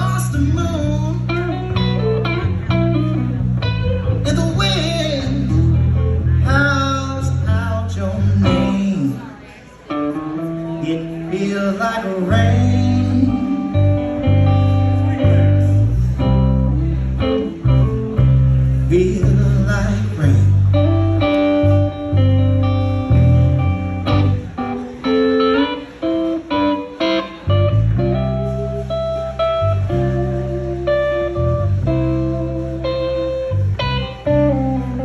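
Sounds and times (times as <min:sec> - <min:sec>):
electric bass guitar: 0:00.0 - 0:35.0
electric guitar: 0:00.0 - 0:35.0
live blues band: 0:00.0 - 0:35.0.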